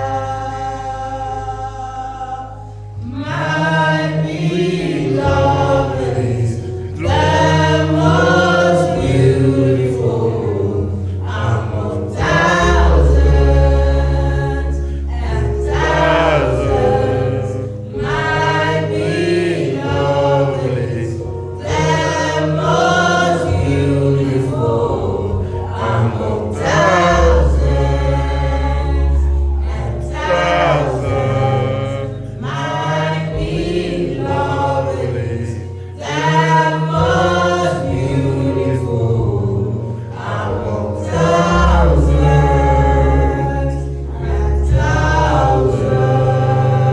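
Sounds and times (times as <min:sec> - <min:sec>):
choir singing gospel: 0:00.0 - 0:46.9
music with held bass notes: 0:00.0 - 0:46.9.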